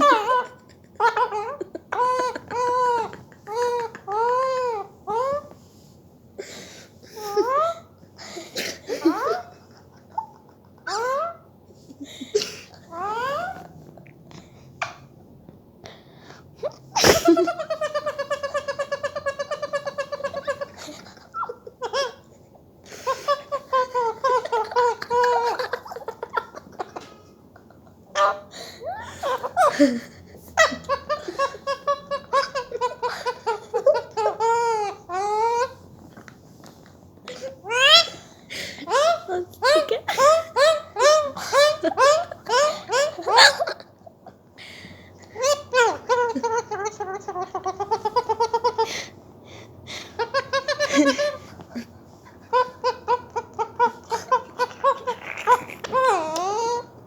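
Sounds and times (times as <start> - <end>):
parrot mimicking laughter: 0.0 - 5.5, 8.6 - 11.5, 12.4 - 13.7, 16.6 - 35.8, 37.3 - 44.0, 45.3 - 49.1, 50.0 - 57.0.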